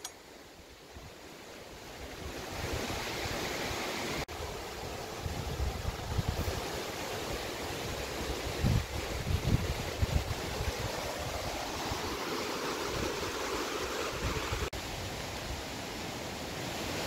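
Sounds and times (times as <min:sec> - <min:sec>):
river water rushing: 0:01.2 - 0:17.0.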